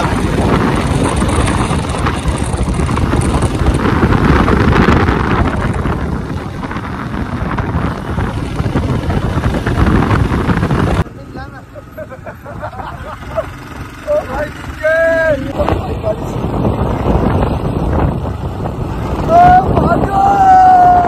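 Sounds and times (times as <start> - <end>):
wind buffeting microphone: 0.0 - 11.1, 12.2 - 21.0
motorcycle engine running: 0.0 - 20.1.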